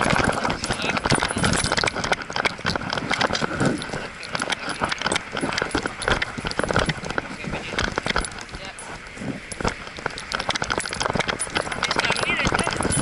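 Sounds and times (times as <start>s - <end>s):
quick footfalls clicking: 0.0s - 13.0s
small metal jangling: 0.0s - 13.0s.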